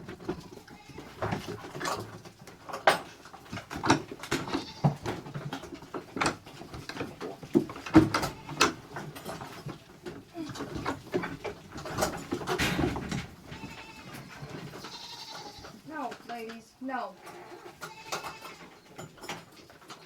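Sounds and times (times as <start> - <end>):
goats knocking and clattering: 0.0 - 20.0.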